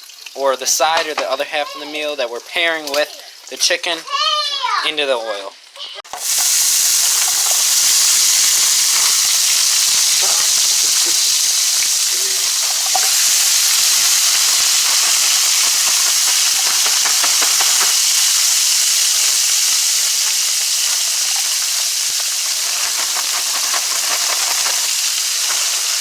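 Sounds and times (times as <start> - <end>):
vegetables sizzling in hot oil: 0.0 - 4.8, 5.6 - 26.0.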